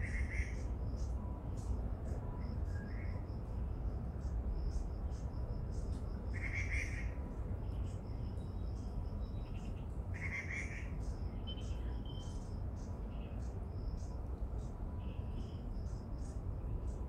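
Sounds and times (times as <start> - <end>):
constant low rumble: 0.0 - 17.0.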